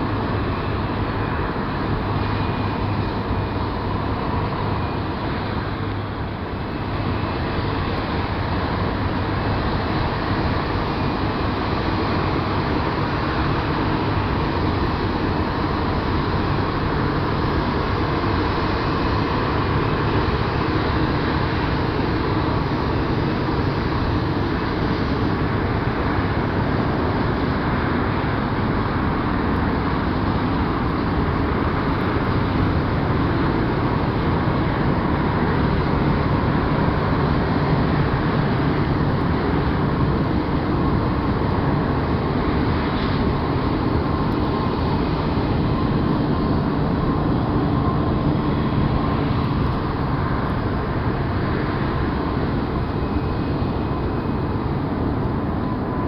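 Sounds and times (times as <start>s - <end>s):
jet engines whining while taxiing: 0.0s - 56.0s.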